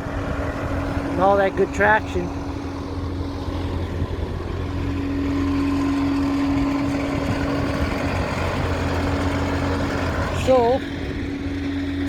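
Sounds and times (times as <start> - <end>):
engine droning with whine: 0.0 - 12.0.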